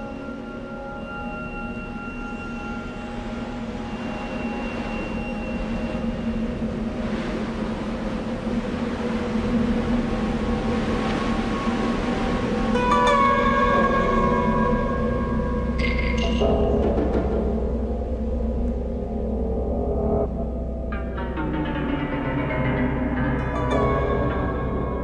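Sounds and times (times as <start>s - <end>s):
dark droning film score: 0.0s - 25.0s.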